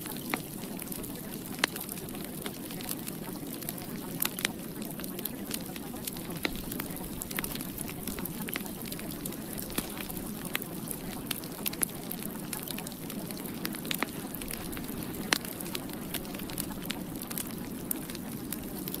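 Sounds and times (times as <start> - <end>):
sharp crackles and pops: 0.0 - 19.0.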